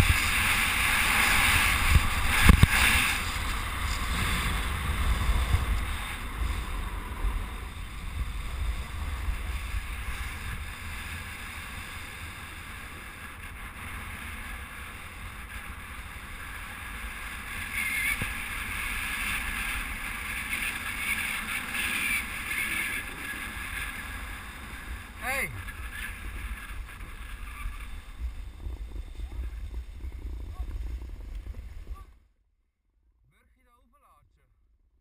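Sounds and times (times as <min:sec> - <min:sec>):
skis sliding on packed snow: 0:00.0 - 0:32.1
wind on microphone: 0:00.0 - 0:32.2.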